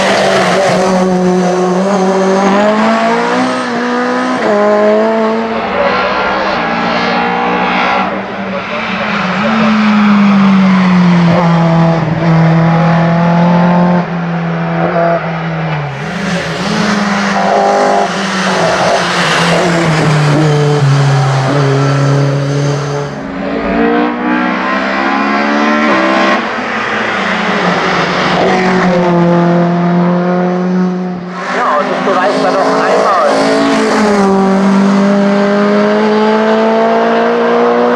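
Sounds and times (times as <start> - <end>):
race car engine at full throttle: 0.0 - 37.9.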